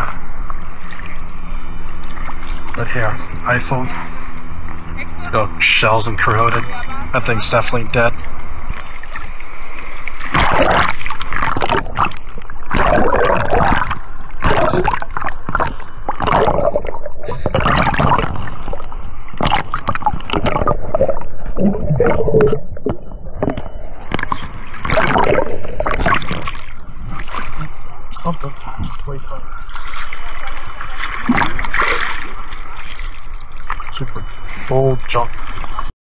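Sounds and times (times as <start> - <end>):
water gurgling and splashing: 0.0 - 35.9.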